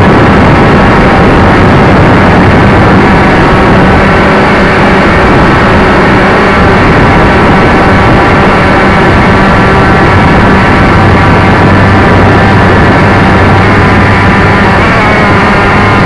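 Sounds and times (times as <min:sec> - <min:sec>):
loud motor drone: 0:00.0 - 0:16.0.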